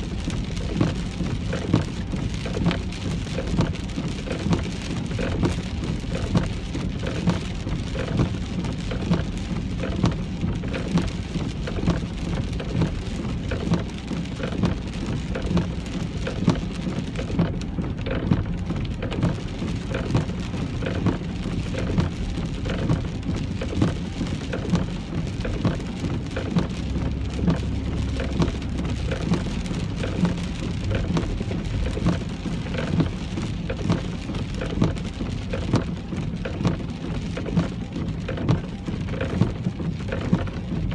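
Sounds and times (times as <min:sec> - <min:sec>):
rain falling on a car: 0:00.0 - 0:40.9
road and engine rumble: 0:00.0 - 0:40.9.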